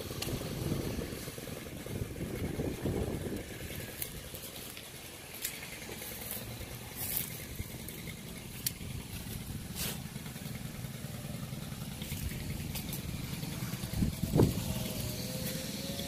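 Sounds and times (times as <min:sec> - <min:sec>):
string trimmer idling: 0:00.0 - 0:16.0.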